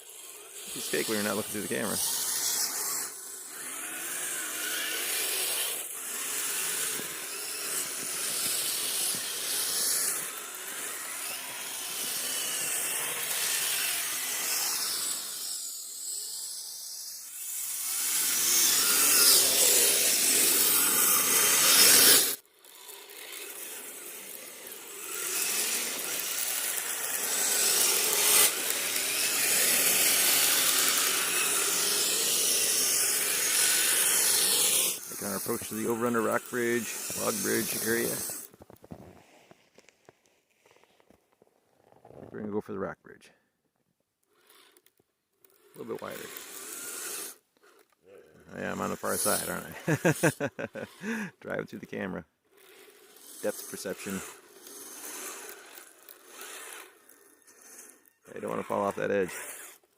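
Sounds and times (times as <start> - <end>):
toy car grinding through snow: 0.0 - 42.6, 44.2 - 59.9.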